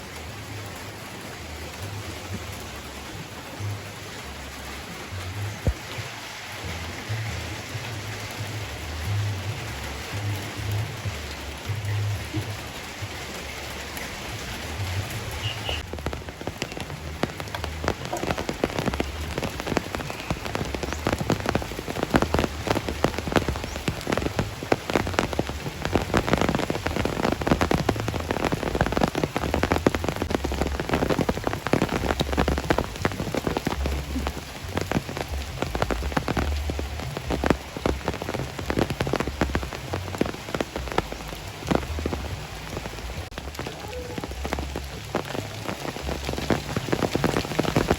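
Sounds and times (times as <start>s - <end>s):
close raindrop strikes: 0.0s - 47.9s
heavy rain pouring: 0.0s - 47.9s.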